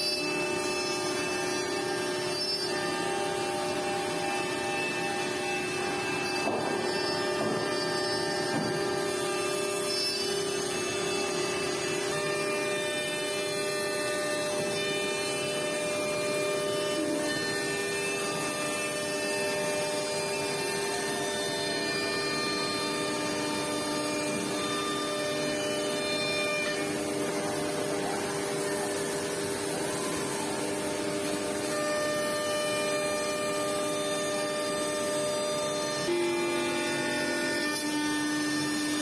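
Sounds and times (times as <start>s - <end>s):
woodworking machine whining: 0.0s - 39.0s.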